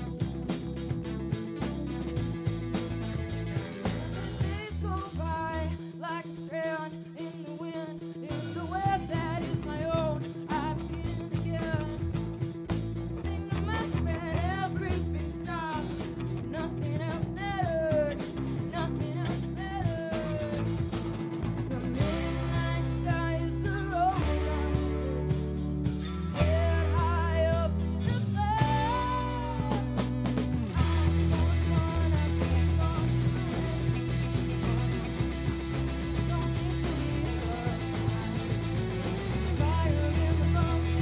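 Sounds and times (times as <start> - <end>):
rock band playing: 0.0 - 41.0
woman singing: 4.2 - 12.2, 13.1 - 21.0, 22.0 - 25.5, 26.3 - 30.0, 30.8 - 41.0.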